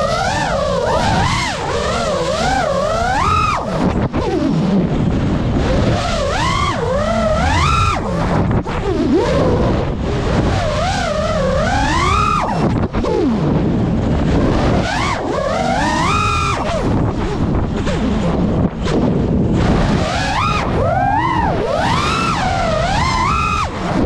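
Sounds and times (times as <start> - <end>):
quadcopter motors whining: 0.0 - 24.0.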